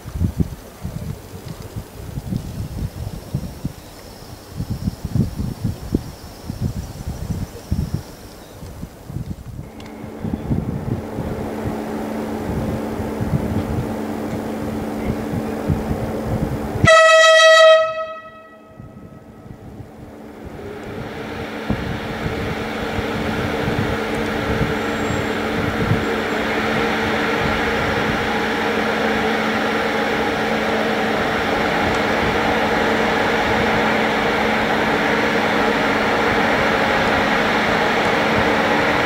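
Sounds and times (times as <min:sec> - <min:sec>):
locomotive hum and fan whir: 0:00.0 - 0:39.0.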